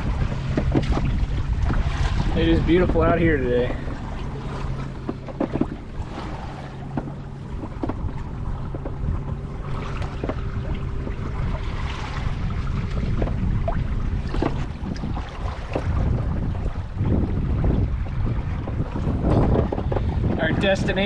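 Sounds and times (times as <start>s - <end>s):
water slapping against hull: 0.0s - 21.0s
wind buffeting microphone: 0.0s - 21.0s.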